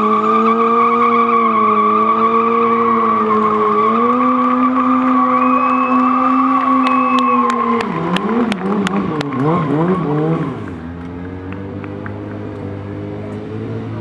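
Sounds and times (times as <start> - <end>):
motorcycle engine revving high: 0.0 - 14.0.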